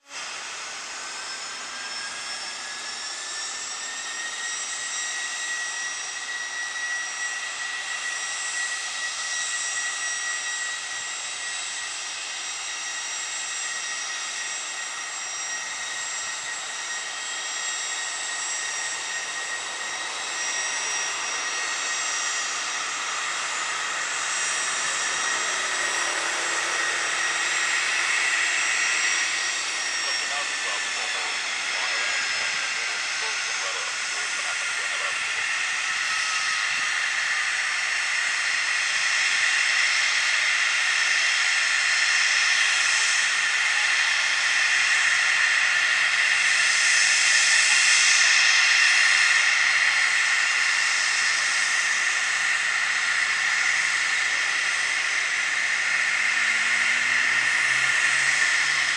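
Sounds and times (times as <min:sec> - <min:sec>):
jet engine whine and roar: 0:00.0 - 0:58.9.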